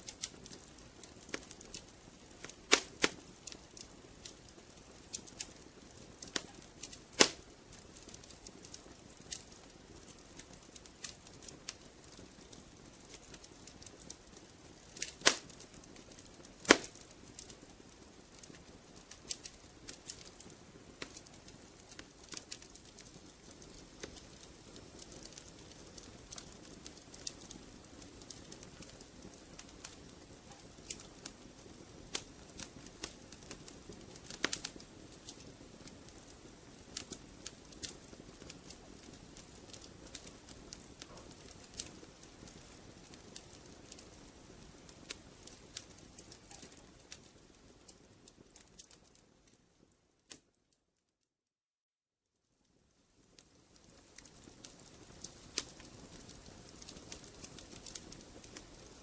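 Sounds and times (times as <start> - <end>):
hiss of flames: 0.0 - 49.1, 53.2 - 59.0
wood fire crackling: 0.0 - 50.7, 52.6 - 59.0.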